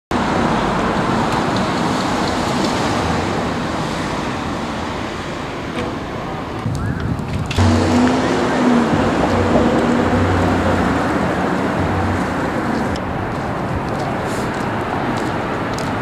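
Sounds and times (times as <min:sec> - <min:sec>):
road traffic noise: 0:00.1 - 0:16.0.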